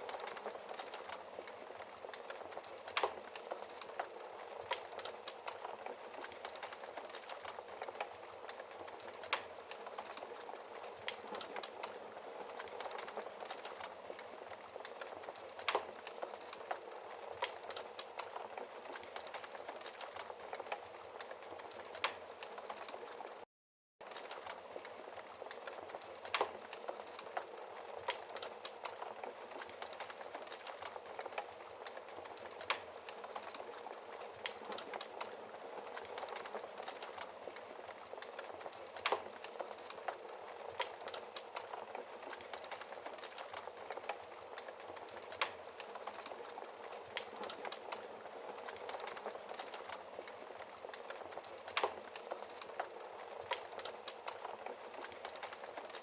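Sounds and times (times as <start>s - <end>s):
wood fire crackling: 0.0s - 56.0s
fire pops: 0.1s - 23.3s, 24.1s - 56.0s.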